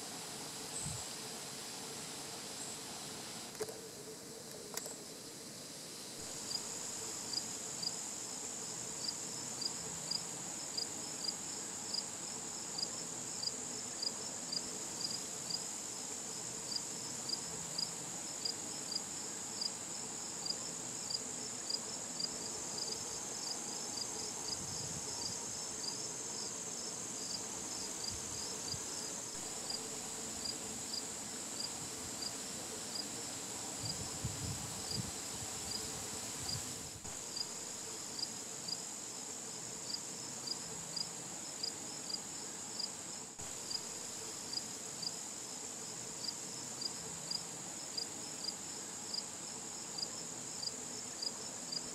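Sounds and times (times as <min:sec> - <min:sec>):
cricket chirps: 0:00.0 - 0:51.9
crickets trilling: 0:00.0 - 0:51.9.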